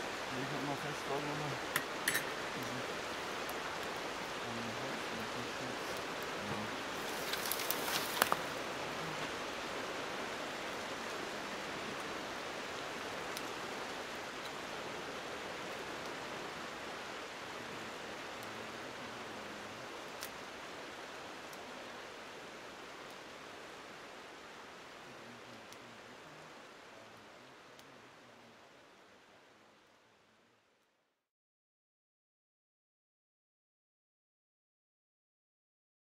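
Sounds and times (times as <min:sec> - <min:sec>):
water rushing: 0:00.0 - 0:29.8
campfire crackling and popping: 0:00.1 - 0:29.0.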